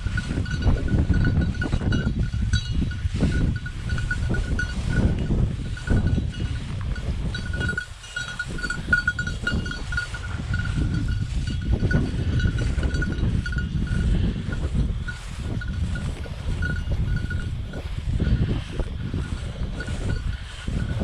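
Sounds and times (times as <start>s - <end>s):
small bell jingling: 0.0s - 21.0s
wind buffeting microphone: 0.0s - 21.0s.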